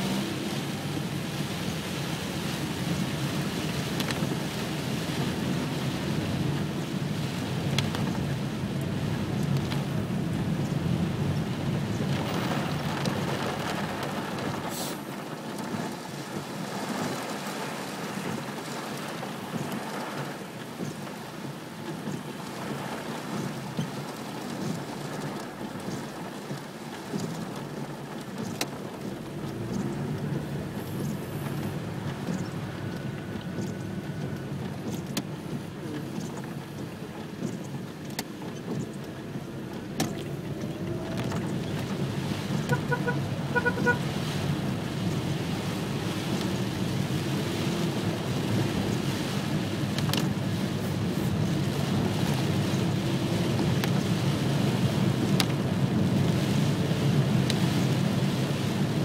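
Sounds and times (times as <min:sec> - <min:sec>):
heavy rain on car roof: 0:00.0 - 0:59.0.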